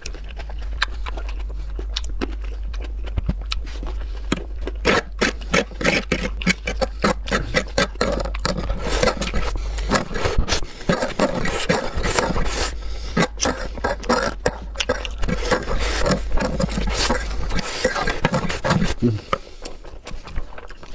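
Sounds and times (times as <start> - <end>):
slurping and chewing noodles: 0.0 - 20.9.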